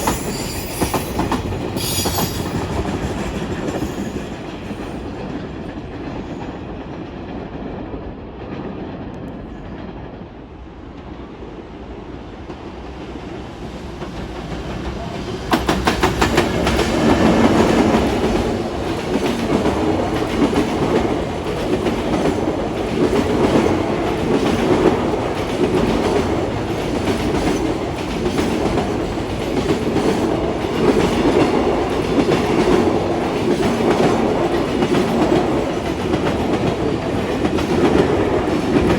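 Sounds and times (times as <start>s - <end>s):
distant train noise: 0.0s - 38.9s
train passing close by: 0.0s - 38.9s.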